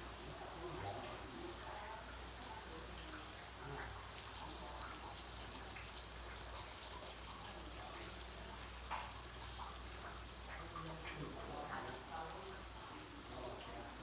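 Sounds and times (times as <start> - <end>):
small drips: 0.0 - 14.0.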